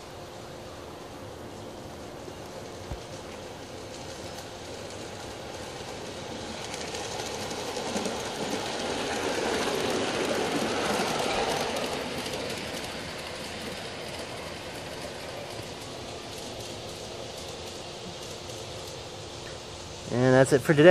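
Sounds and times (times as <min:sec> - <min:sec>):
model train wheels clicking on rail: 0:01.4 - 0:20.9.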